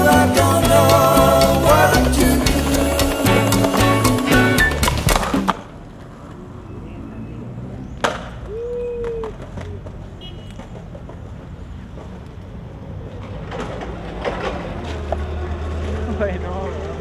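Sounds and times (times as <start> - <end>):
traffic noise: 1.7 - 17.0.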